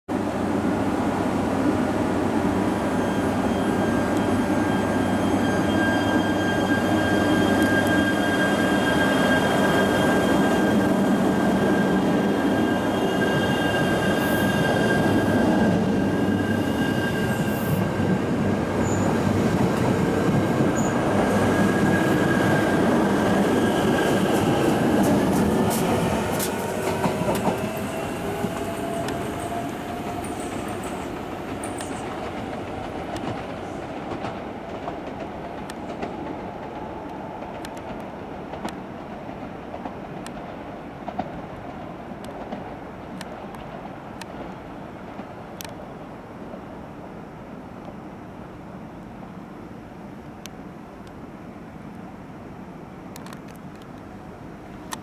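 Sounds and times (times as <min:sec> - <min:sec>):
high train whine: 0:00.1 - 0:55.0
train wheels rumbling on rail: 0:00.3 - 0:46.7.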